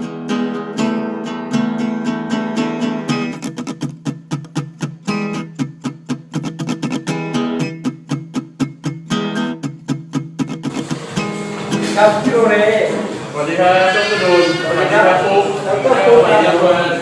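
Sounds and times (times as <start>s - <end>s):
instrumental guitar music: 0.0s - 16.2s.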